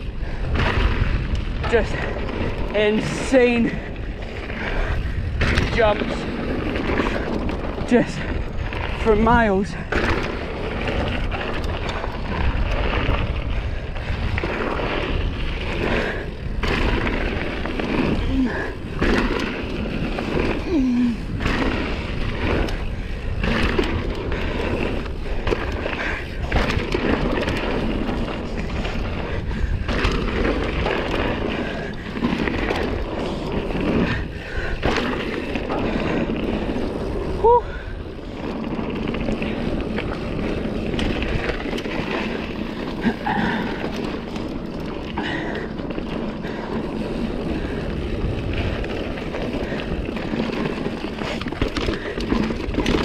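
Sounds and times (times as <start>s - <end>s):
bike rattle: 0.0s - 53.0s
tyres rolling on packed dirt: 0.0s - 53.0s
wind noise: 0.0s - 53.0s.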